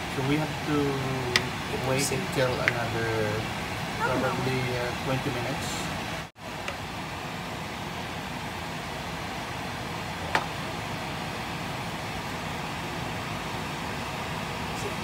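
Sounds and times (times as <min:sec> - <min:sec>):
kitchen fan hum: 0:00.0 - 0:15.0.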